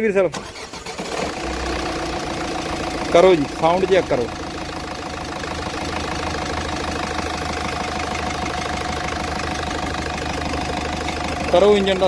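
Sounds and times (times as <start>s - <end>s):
car engine idling: 0.4s - 12.0s.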